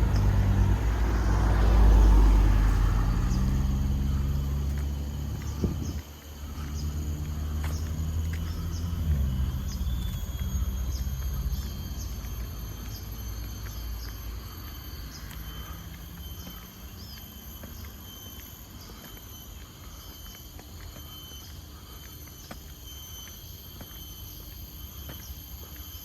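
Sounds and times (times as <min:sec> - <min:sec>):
insects chirring: 0:00.0 - 0:26.0
small insect chirps: 0:00.0 - 0:26.0
vehicle engine rumble: 0:00.0 - 0:26.0.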